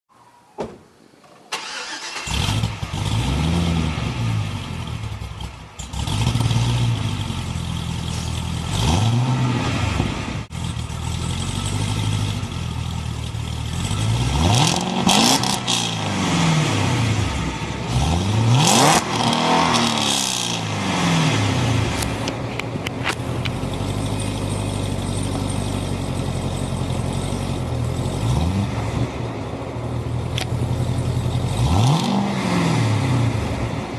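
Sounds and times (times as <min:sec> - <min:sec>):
car engine starting: 0:00.2 - 0:33.9
car engine idling: 0:01.6 - 0:08.8, 0:10.0 - 0:31.7.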